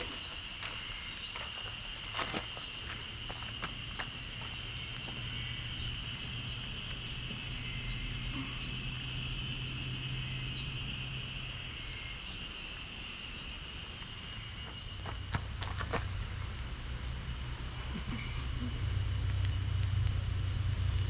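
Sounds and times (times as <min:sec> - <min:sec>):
steady high-pitched drone: 0:00.0 - 0:20.8
low engine-like hum: 0:00.0 - 0:21.0.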